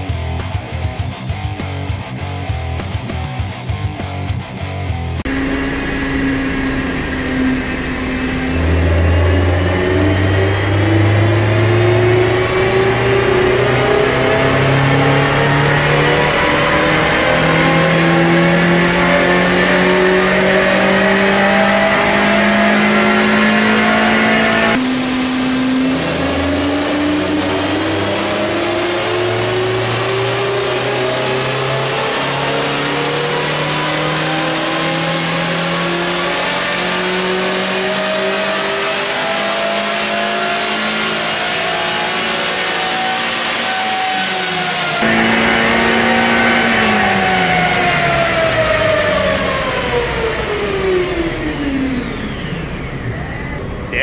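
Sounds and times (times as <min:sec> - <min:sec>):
car engine at full throttle: 0:00.0 - 0:54.0.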